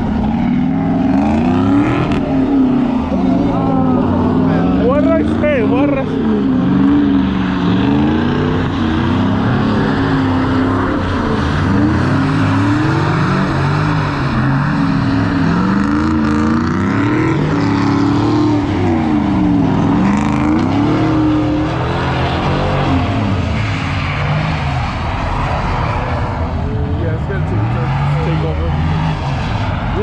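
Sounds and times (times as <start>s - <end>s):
car engine revving: 0.0s - 30.0s
steady rushing noise: 0.0s - 30.0s.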